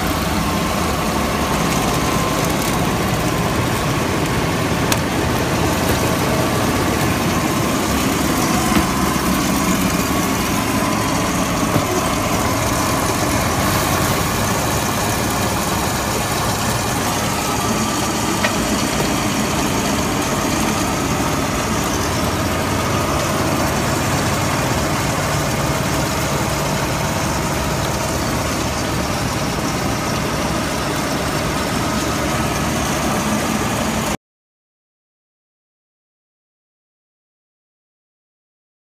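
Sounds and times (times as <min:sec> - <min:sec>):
fiber opening machines running: 0:00.0 - 0:34.2.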